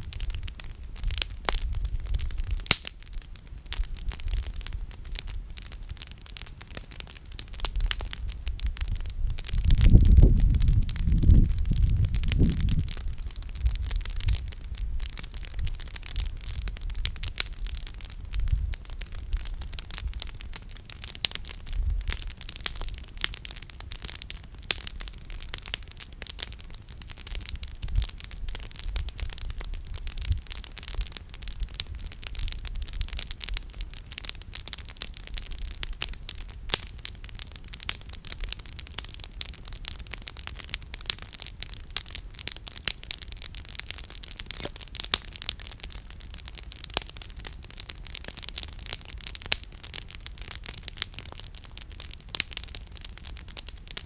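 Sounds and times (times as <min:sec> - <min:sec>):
campfire crackling and popping: 0:00.0 - 0:54.0
low fire rumble: 0:00.0 - 0:54.0.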